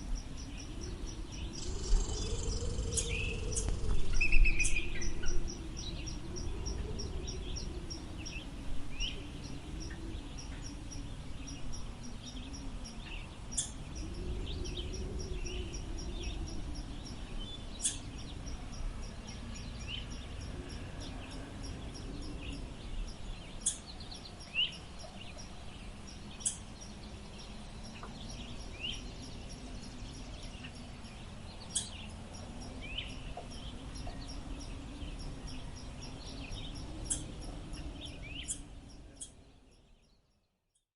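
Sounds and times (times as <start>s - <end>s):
wind blowing: 0.0s - 39.6s.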